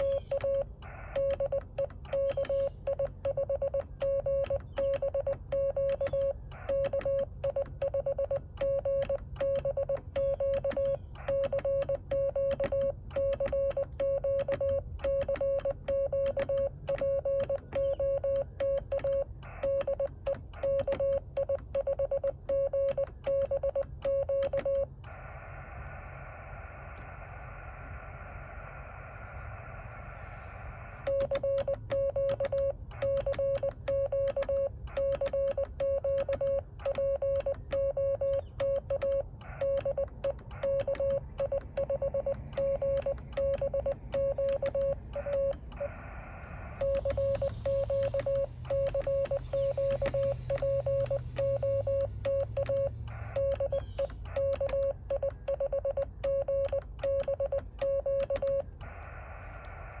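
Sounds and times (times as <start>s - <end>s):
morse code tone: 0.0s - 25.8s, 30.9s - 60.0s
keying clicks: 0.0s - 28.9s, 30.9s - 46.0s, 46.6s - 60.0s.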